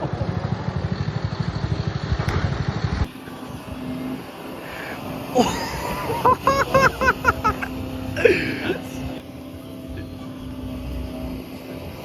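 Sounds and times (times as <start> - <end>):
quiet outdoor ambience: 0.3 - 12.0.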